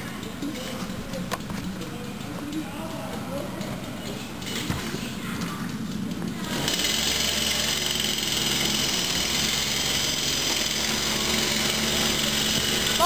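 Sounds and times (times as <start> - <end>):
machine drone: 1.8 - 13.0.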